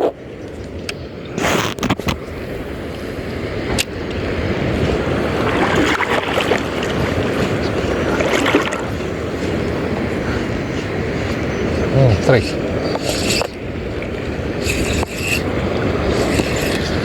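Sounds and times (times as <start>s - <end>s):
small boat rumbling: 0.0s - 17.0s
wind on microphone: 0.0s - 17.0s.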